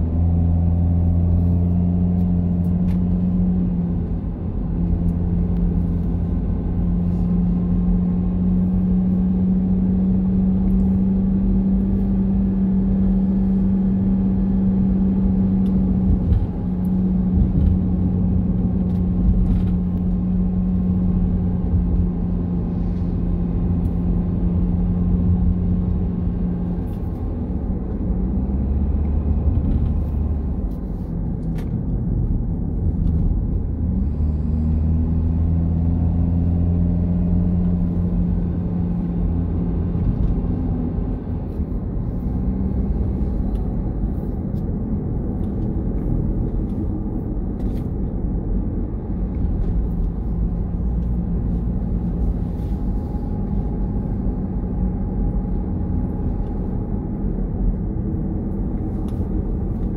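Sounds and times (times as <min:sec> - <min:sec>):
car engine hum: 0:00.0 - 0:59.9
road rumble: 0:00.0 - 0:59.9.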